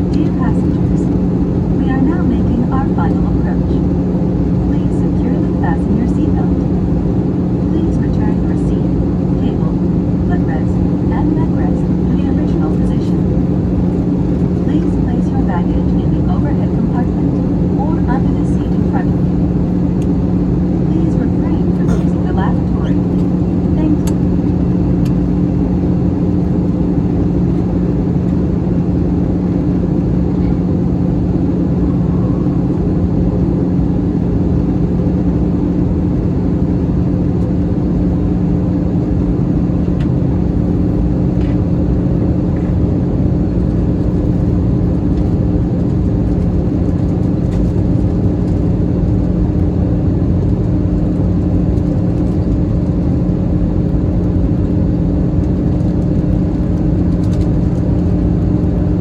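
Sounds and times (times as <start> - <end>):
jet engines droning: 0.0 - 59.0
steady low hum: 0.0 - 59.0.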